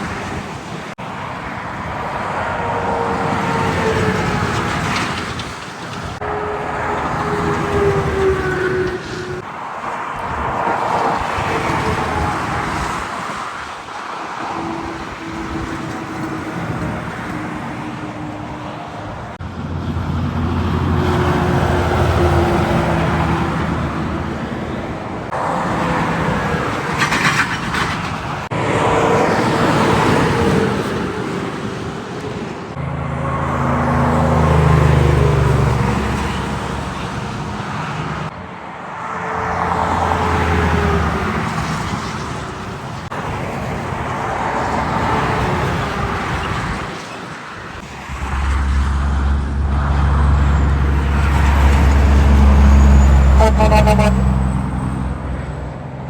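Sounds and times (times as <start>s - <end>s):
heavy trucks passing: 0.0s - 56.0s.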